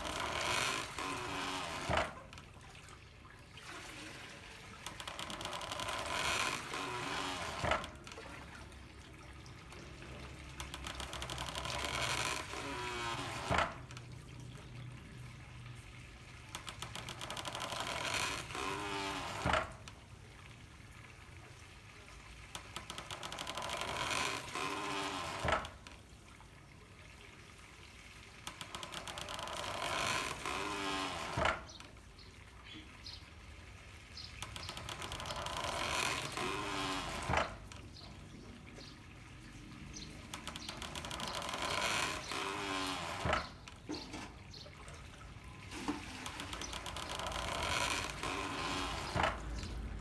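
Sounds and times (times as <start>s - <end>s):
water pouring and splashing: 0.0s - 50.0s.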